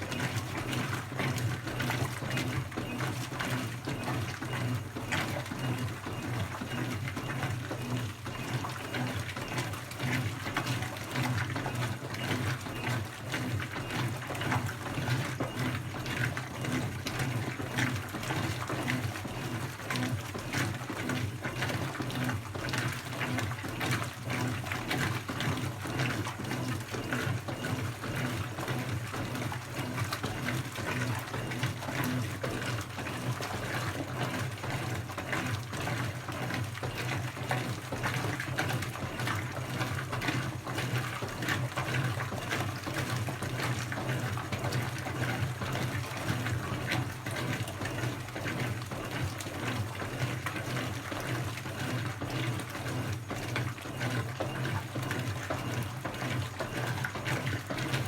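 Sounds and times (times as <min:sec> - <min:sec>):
water pouring into washing machine: 0:00.0 - 0:58.0.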